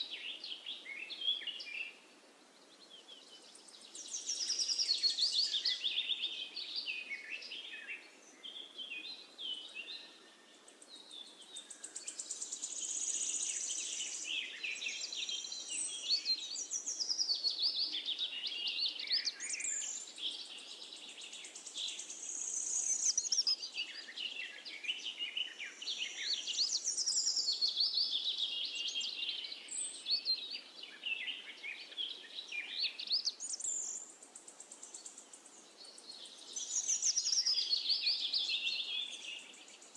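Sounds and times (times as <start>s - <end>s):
birds singing: 0.0s - 2.0s, 2.6s - 39.9s.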